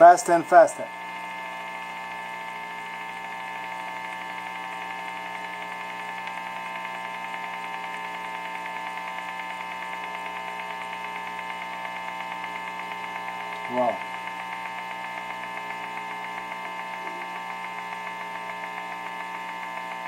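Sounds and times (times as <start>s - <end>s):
amplifier buzzing hum: 0.0s - 20.0s.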